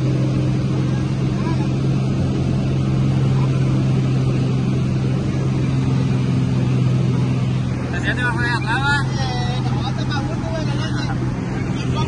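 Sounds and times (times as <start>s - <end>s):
light airplane engine drone: 0.0s - 12.0s.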